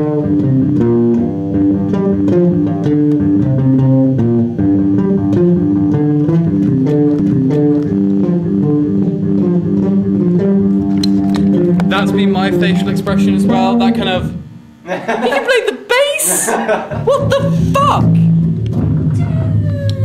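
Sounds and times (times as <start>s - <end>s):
bass guitar plucked fingerstyle: 0.0s - 14.8s, 16.9s - 20.0s.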